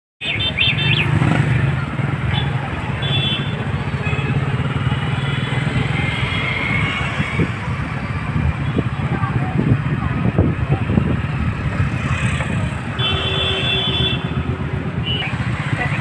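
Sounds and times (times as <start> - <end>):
road noise: 0.2 - 16.0.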